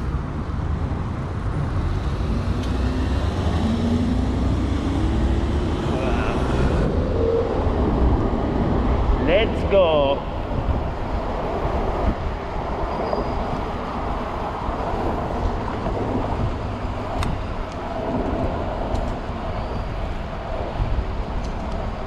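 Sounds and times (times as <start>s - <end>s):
road and tyre noise: 0.0s - 22.0s
wind on microphone: 0.0s - 22.0s.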